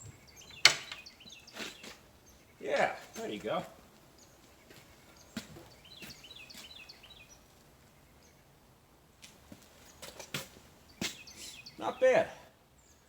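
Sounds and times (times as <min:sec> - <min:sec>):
small bird chirping: 0:00.0 - 0:08.5, 0:09.8 - 0:12.0
faint outdoor ambience: 0:00.0 - 0:13.0.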